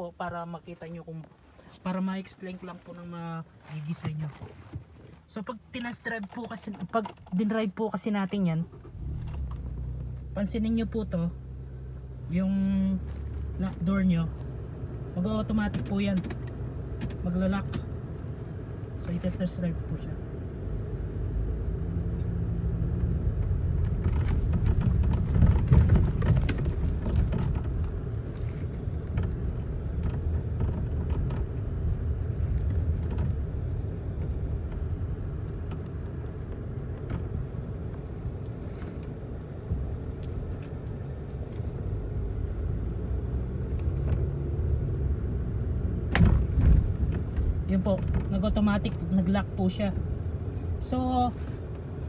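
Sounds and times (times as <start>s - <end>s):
engine and road rumble: 0.0s - 52.0s.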